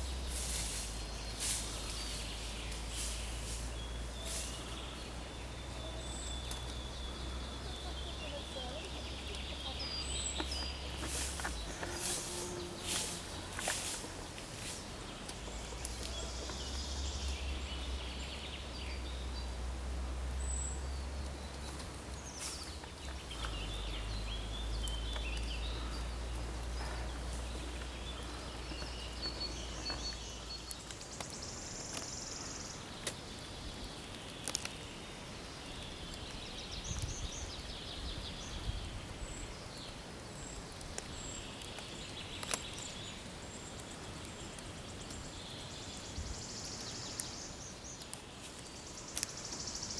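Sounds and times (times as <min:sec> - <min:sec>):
birds calling and singing: 0:00.0 - 0:49.9.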